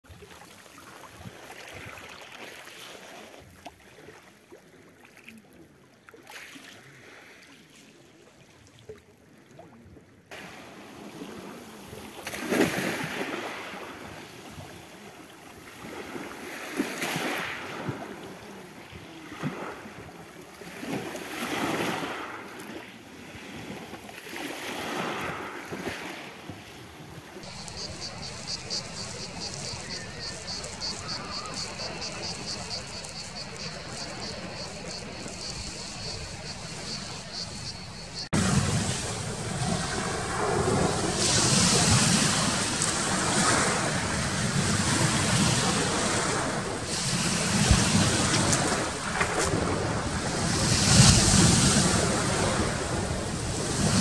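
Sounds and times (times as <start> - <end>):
sea waves washing ashore: 10.3 - 54.0.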